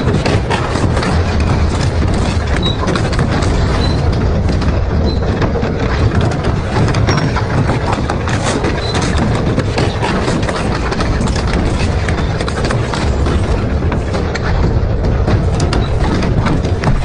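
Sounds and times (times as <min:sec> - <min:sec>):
metal shredder chewing metal: 0:00.0 - 0:17.0.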